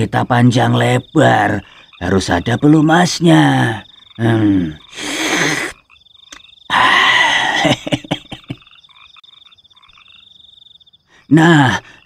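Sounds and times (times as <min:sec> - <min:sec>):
frogs croaking: 0:00.0 - 0:12.0.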